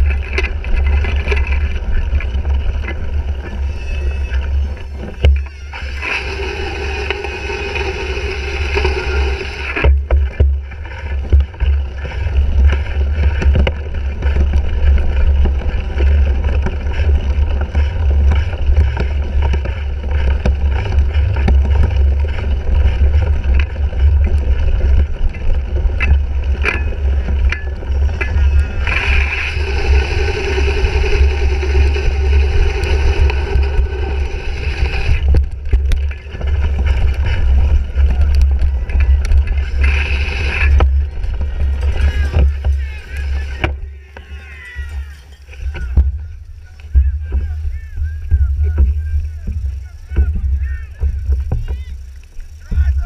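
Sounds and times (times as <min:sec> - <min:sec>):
wind buffeting microphone: 0:00.0 - 0:44.0
bike knocking and rattling: 0:00.0 - 0:53.0.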